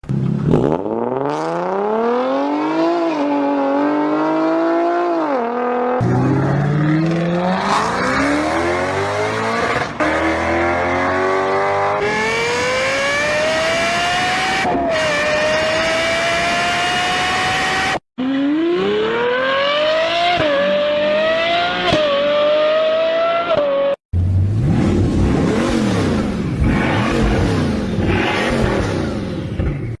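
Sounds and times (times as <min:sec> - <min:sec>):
car engines accelerating hard: 0:00.0 - 0:30.0.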